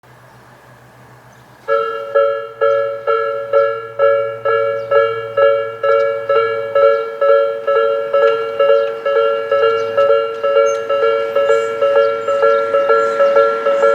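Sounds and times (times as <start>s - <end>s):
level crossing warning bell: 1.6s - 13.9s.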